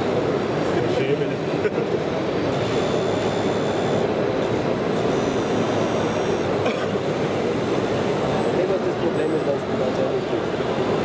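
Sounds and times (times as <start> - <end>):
high whine of small pump: 0.0 - 11.0.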